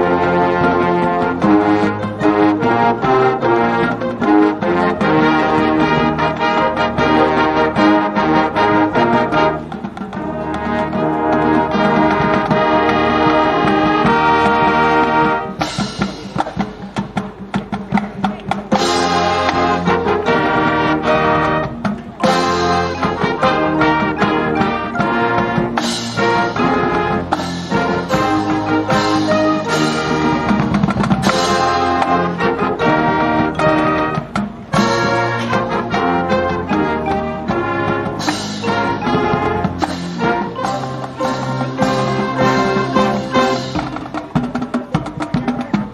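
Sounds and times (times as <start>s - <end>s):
brass chords: 0.0s - 45.4s
percussion hits: 0.0s - 45.9s.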